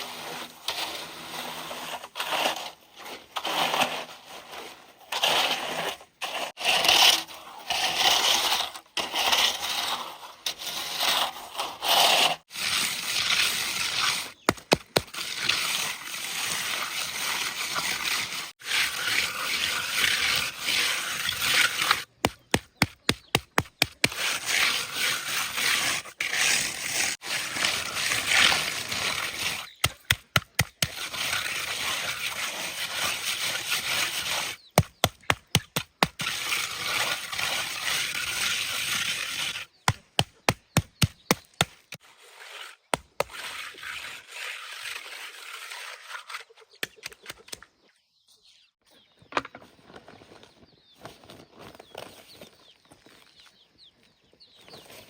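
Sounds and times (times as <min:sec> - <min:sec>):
wet cement scraping and sloshing: 0:00.0 - 0:46.5.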